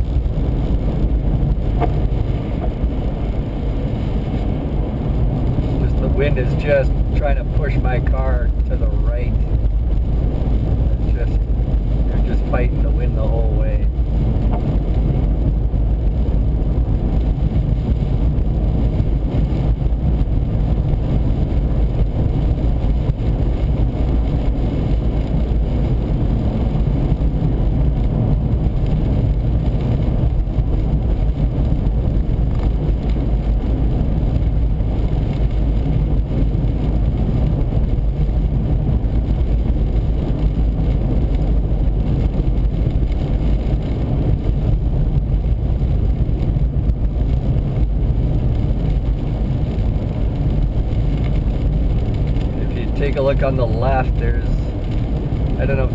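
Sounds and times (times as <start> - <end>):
car road and wind noise: 0.0 - 55.9.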